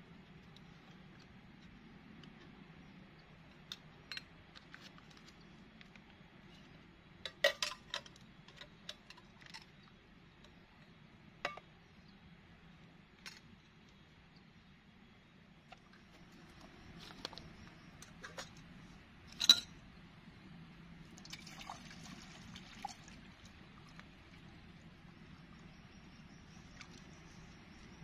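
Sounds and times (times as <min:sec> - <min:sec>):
faint steady background noise: 0:00.0 - 0:28.0.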